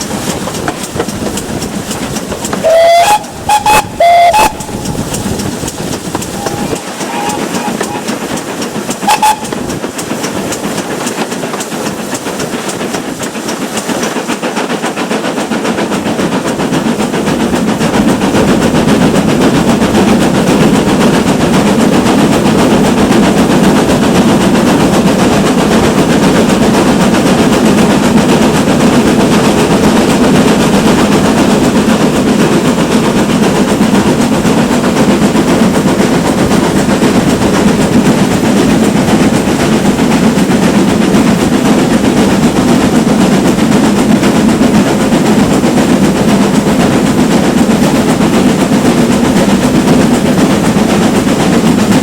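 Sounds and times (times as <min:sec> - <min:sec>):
steam locomotive exhaust beats: 0:00.0 - 0:52.0
train running noise: 0:00.0 - 0:52.0.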